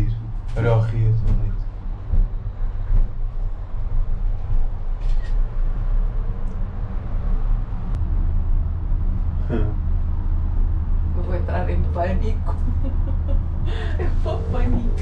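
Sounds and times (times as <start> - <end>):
cable car mechanical rumble: 0.0 - 15.0.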